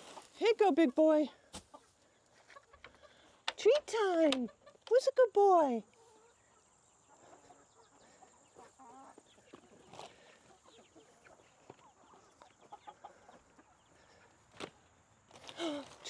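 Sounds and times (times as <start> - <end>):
chickens clucking: 0.0 - 5.2, 5.8 - 16.0.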